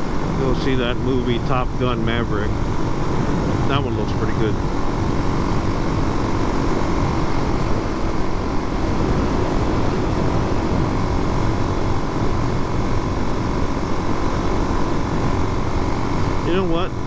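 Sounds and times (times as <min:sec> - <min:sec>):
motorcycle engine cruising: 0:00.0 - 0:17.0
riding noise rushing: 0:00.0 - 0:17.0.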